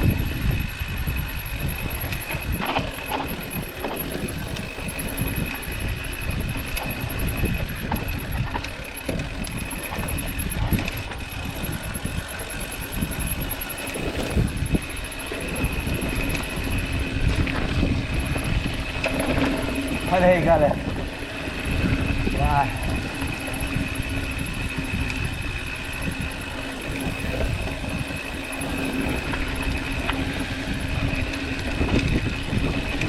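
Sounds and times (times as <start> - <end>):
thin steady high tone: 0.0 - 33.0
tyres rumbling over rough ground: 0.0 - 33.0
wind rushing over microphone: 0.0 - 33.0.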